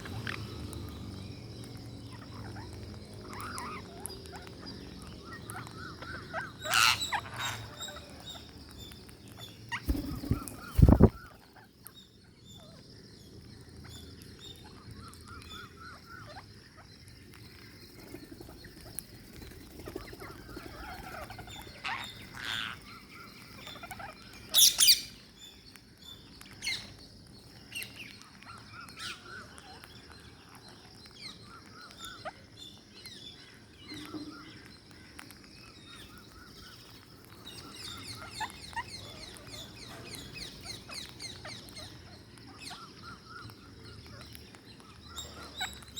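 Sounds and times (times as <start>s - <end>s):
parakeets chirping: 0.0s - 45.9s.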